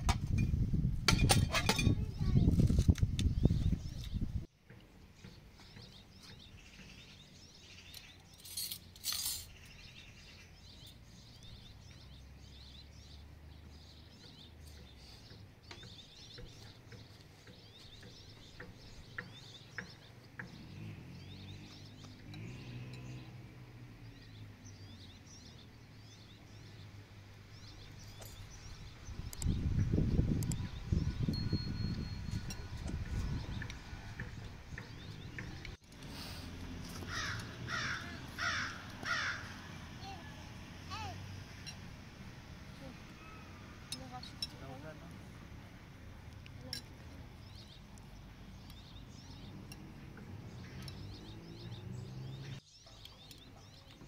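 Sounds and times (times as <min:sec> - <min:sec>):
small birds chirping: 0:01.4 - 0:54.0.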